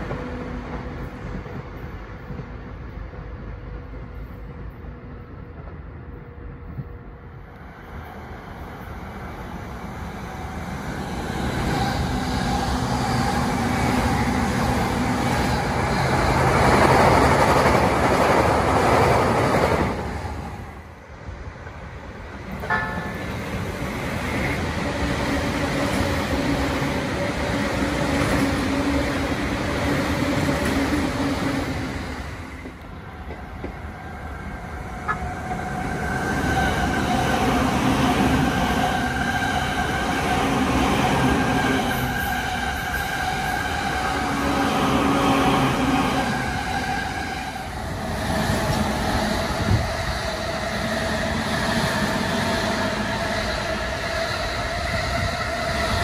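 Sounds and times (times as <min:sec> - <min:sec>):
electric trains passing: 0:00.0 - 0:56.0.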